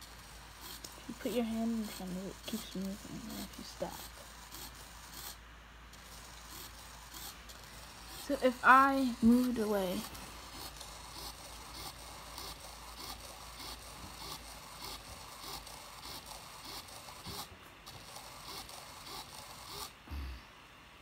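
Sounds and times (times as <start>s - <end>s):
small servo motor whirring: 0.0s - 20.3s.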